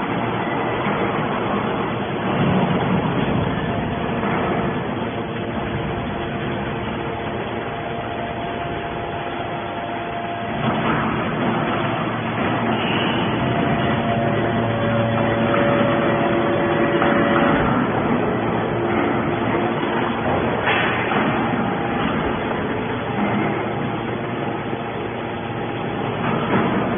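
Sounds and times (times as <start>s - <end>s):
scrap metal baler running: 0.0s - 26.9s.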